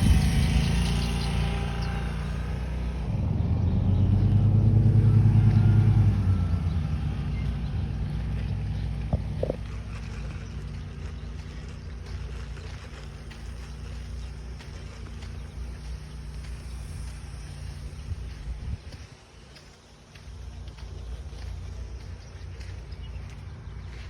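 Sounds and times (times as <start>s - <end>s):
motor vehicle engine: 0.0s - 24.0s.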